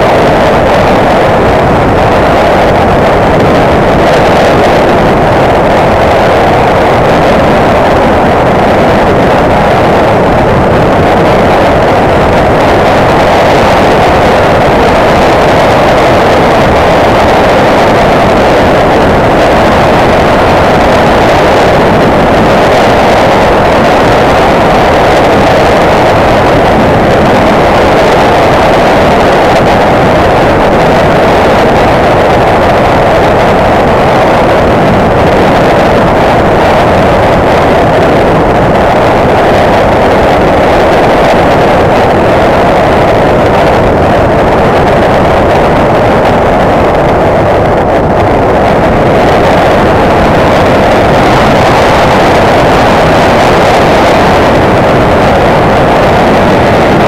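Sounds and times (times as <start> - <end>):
wind rushing on microphone: 0.0 - 57.0.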